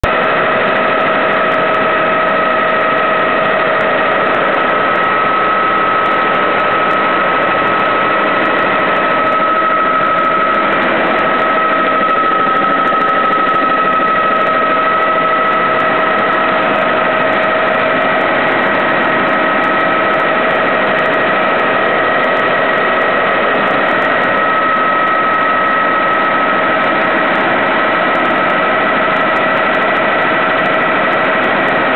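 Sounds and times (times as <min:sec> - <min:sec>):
helicopter engine and rotors: 0:00.0 - 0:31.9
high turbine whine: 0:00.0 - 0:31.9.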